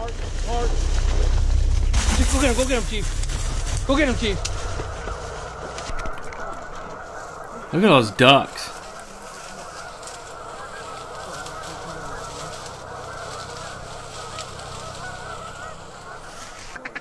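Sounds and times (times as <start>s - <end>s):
geese honking: 2.3s - 17.0s.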